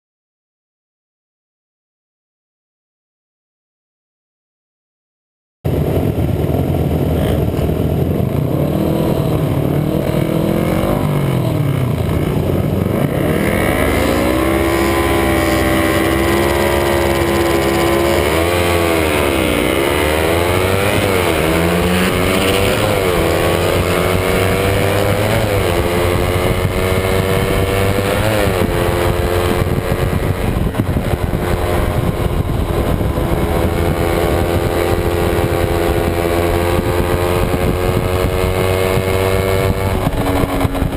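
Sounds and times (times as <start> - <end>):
motorcycle engine revving: 5.7 - 40.9.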